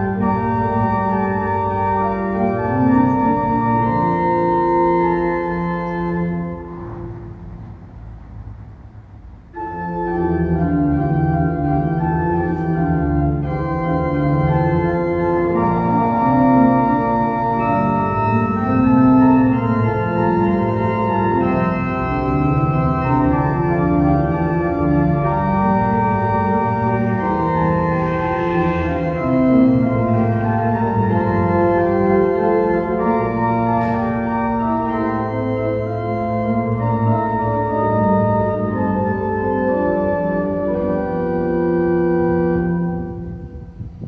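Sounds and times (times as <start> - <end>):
organ chords: 0.0 - 44.0.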